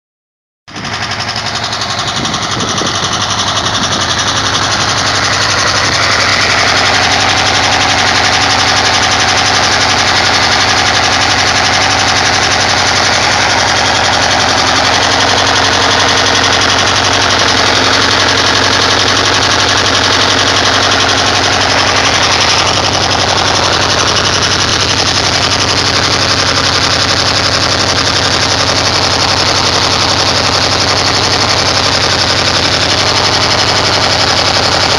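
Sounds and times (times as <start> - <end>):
engine running steadily: 0.7 - 34.9.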